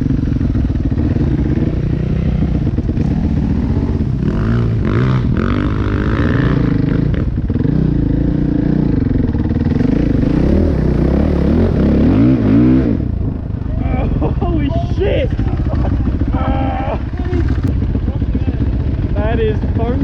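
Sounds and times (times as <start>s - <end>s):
dirtbike engine revving: 0.0s - 20.0s.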